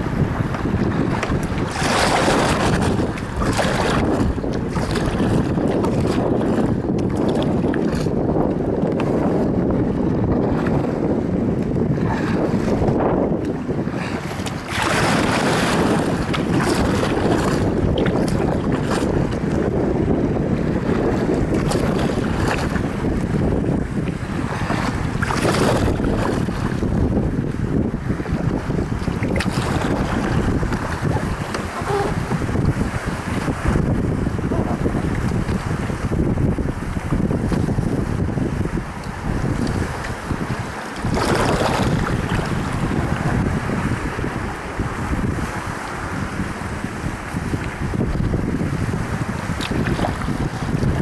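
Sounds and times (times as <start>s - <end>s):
water splashing along hull: 0.0s - 51.0s
wind buffeting microphone: 0.0s - 51.0s.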